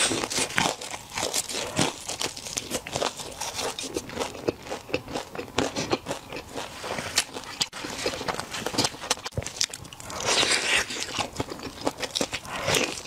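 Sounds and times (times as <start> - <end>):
crunchy biting and chewing: 0.0 - 13.0.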